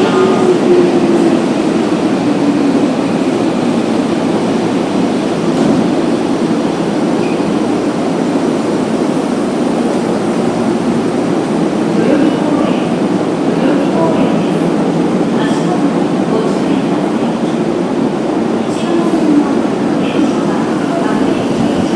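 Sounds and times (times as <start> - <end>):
subway train humming: 0.0 - 21.9.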